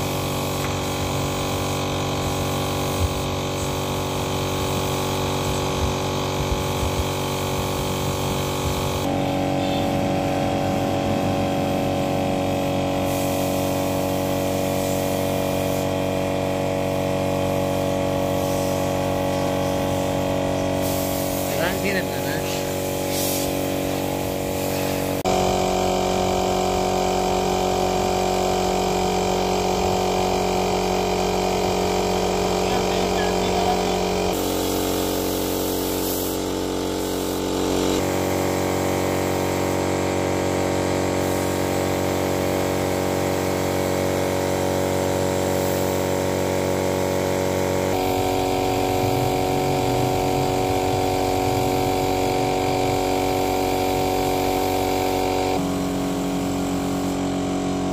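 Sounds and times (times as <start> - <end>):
spray gun hissing: 0.0 - 57.8
air compressor humming: 0.0 - 57.9.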